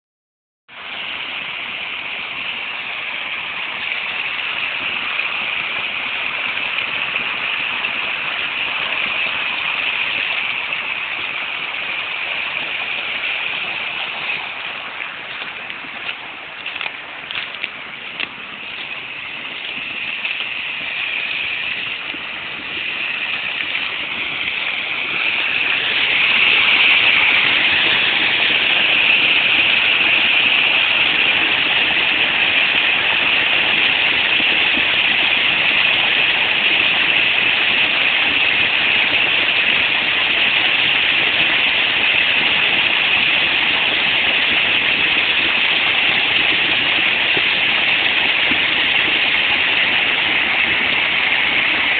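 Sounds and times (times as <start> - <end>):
stream cascading over a drop: 0.7 - 51.9.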